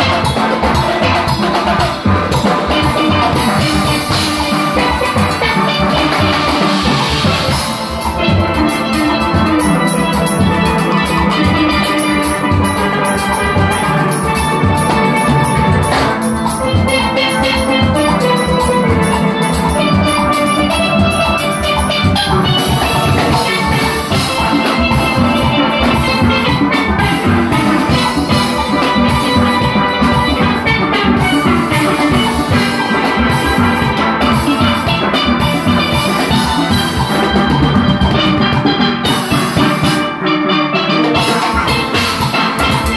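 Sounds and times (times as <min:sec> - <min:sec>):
drum kit: 0:00.0 - 0:42.9
steel pans playing: 0:00.0 - 0:42.9.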